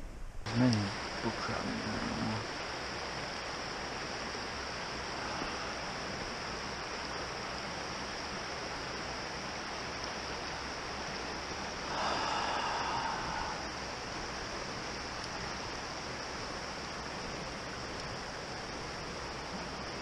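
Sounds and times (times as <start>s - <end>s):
rush of noise: 0.0s - 20.0s
creek running over rocks: 0.5s - 20.0s.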